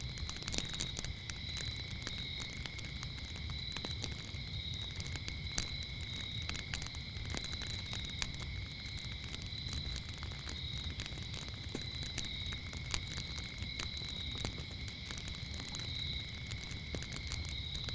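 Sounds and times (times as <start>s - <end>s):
campfire crackling and popping: 0.0s - 17.9s
crickets trilling: 0.0s - 17.9s.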